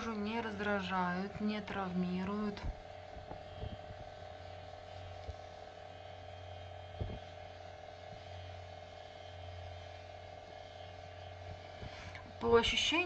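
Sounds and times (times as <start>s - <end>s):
vibration motor humming: 0.0s - 13.0s.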